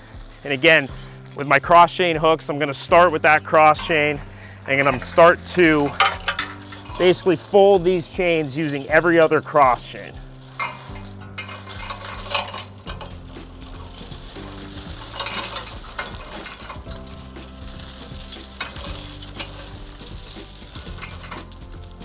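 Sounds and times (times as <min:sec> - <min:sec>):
background music with sustained notes: 0:00.0 - 0:22.0
metal chains clinking and rattling: 0:00.0 - 0:22.0.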